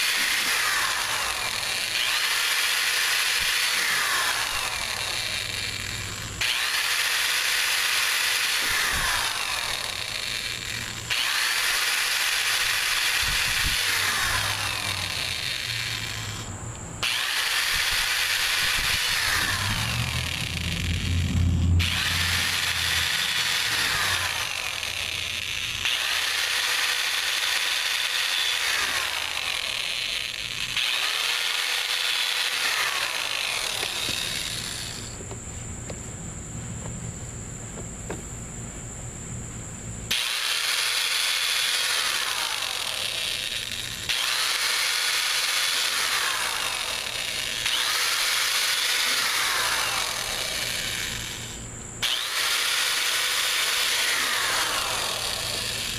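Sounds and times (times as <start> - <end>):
power drill drilling: 0.0 - 35.2, 40.1 - 55.9.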